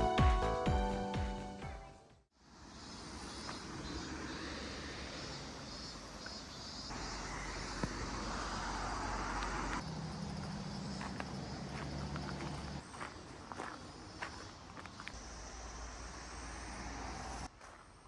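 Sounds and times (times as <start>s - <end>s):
outdoor background noise: 1.8s - 18.0s.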